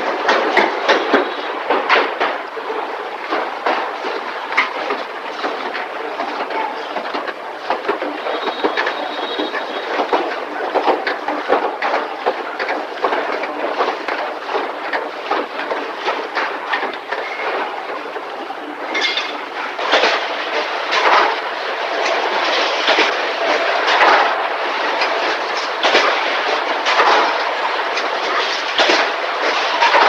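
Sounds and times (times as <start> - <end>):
factory machinery clattering: 0.0 - 30.0
high machine whine: 0.0 - 30.0.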